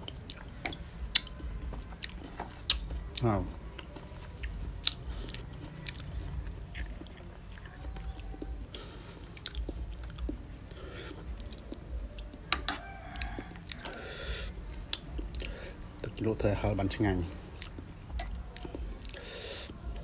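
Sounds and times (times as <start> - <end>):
wet chewing mouth sounds: 0.0 - 16.4, 17.4 - 19.8.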